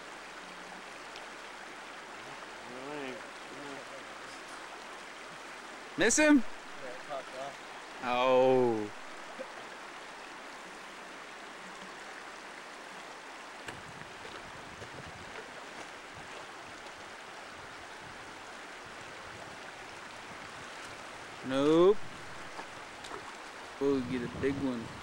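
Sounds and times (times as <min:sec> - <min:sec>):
creek water rushing over stones: 0:00.0 - 0:25.0.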